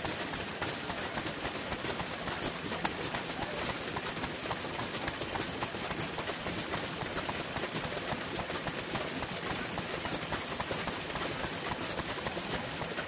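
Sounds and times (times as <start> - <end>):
stationary engines clattering: 0.0 - 13.0.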